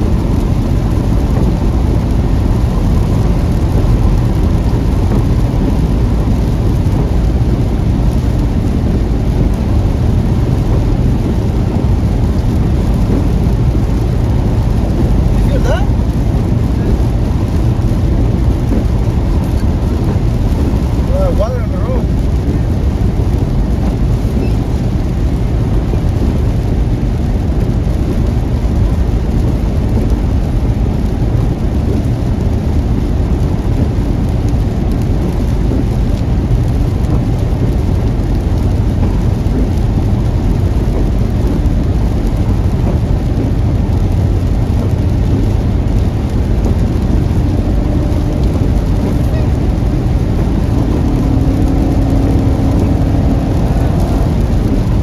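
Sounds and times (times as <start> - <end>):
car rumbling on road: 0.0 - 55.0
faint engine hum: 0.0 - 55.0
heavy rain on a car: 0.0 - 55.0.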